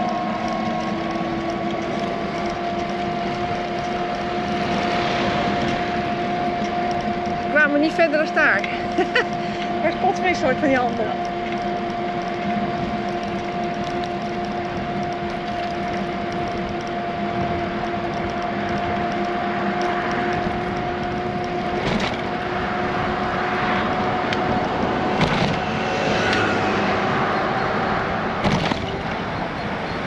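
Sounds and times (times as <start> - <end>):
bicycle tyre rumble: 0.0 - 30.0
constant hum: 0.0 - 30.0.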